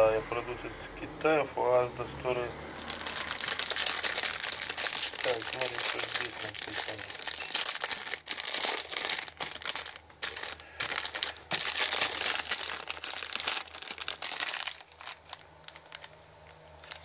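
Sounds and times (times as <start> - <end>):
plastic packet crinkling: 2.8 - 17.0.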